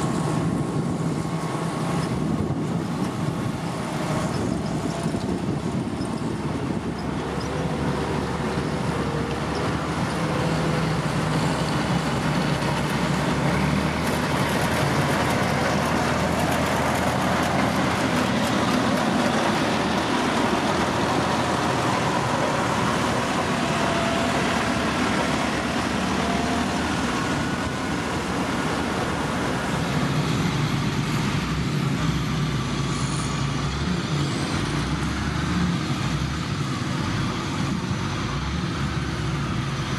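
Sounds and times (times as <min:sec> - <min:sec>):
diesel machinery engine running: 0:00.0 - 0:39.9.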